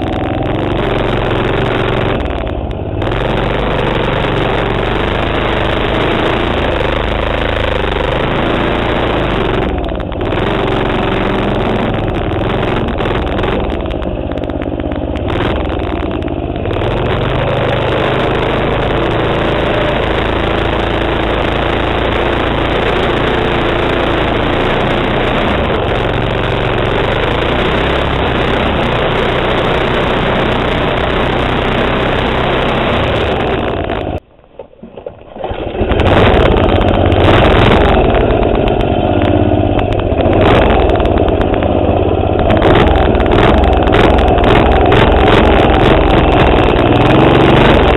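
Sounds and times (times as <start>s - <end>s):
minibike engine under throttle: 0.0s - 47.9s.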